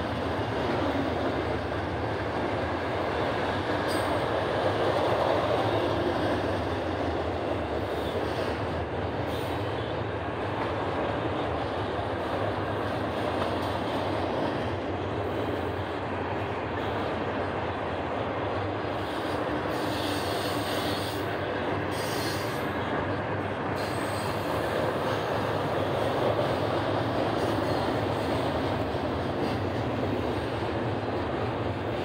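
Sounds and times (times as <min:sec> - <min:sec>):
steel wheels rolling on rail: 0:00.0 - 0:32.0.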